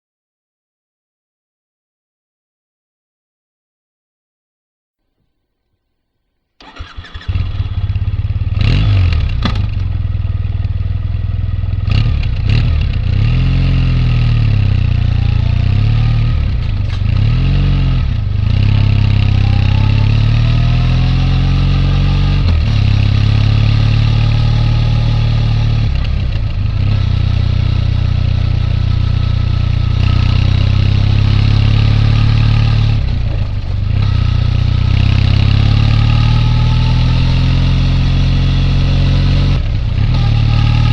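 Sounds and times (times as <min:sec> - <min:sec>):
motorcycle engine revving: 0:06.6 - 0:40.9.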